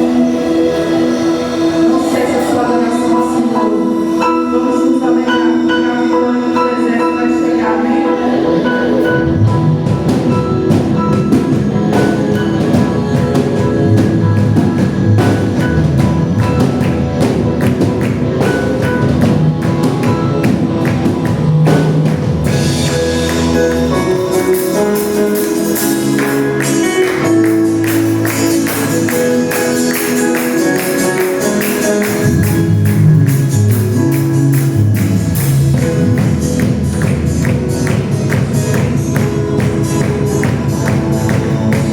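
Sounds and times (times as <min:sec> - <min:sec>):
band playing worship music: 0:00.0 - 0:41.9.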